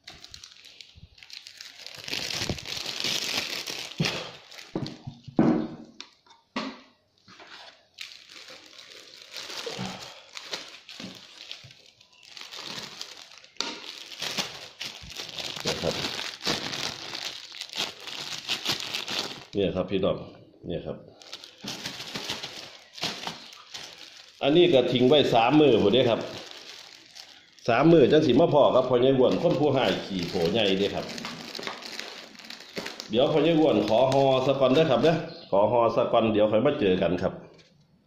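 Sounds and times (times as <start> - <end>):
plastic bag crinkling: 0.0 - 5.3, 7.2 - 19.6, 21.1 - 35.1.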